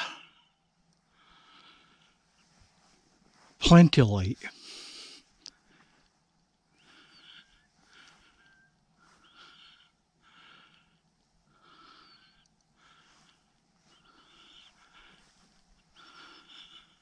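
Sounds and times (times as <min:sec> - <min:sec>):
faint breathing: 0:00.0 - 0:03.6, 0:04.4 - 0:17.0.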